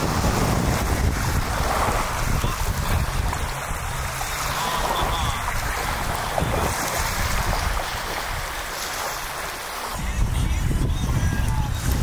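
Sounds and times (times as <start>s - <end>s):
water splashing along boat hull: 0.0s - 12.0s
wind buffeting microphone: 0.0s - 12.0s.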